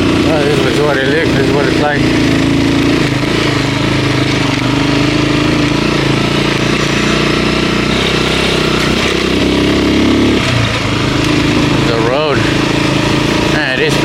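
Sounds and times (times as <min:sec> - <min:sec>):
road and wind noise: 0:00.0 - 0:14.0
vehicle engine running: 0:00.0 - 0:14.0.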